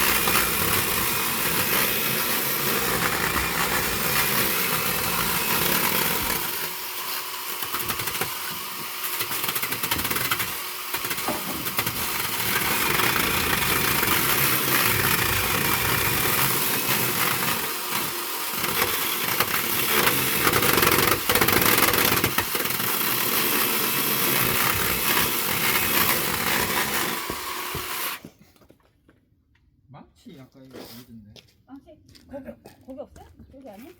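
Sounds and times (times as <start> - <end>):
small engine running: 0.0 - 8.4, 9.0 - 28.2.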